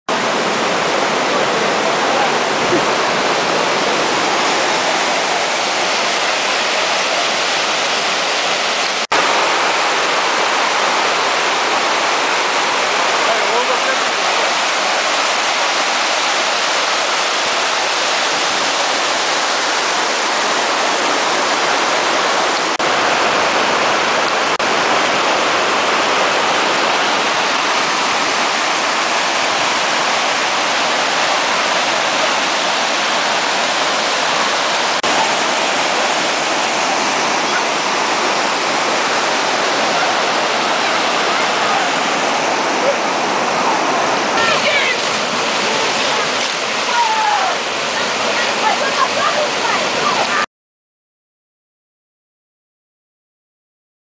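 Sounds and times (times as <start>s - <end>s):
creek water rushing over rocks: 0.1s - 50.5s.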